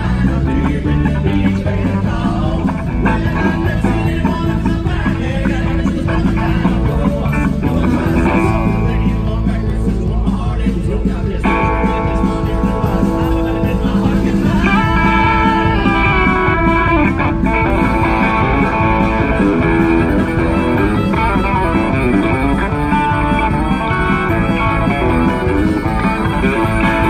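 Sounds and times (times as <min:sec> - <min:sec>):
drums and bass: 0:00.0 - 0:27.0
electric guitar lead: 0:00.0 - 0:27.0.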